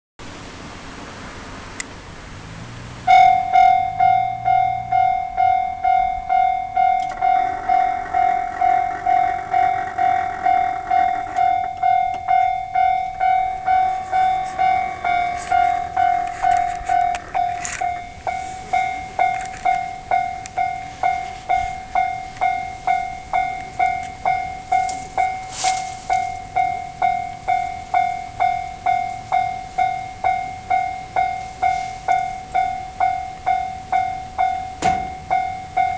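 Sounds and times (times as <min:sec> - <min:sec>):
electric train passing: 0:01.1 - 0:35.9
level crossing warning bell: 0:03.0 - 0:35.9
train wheels clicking over rail joints: 0:05.8 - 0:35.9.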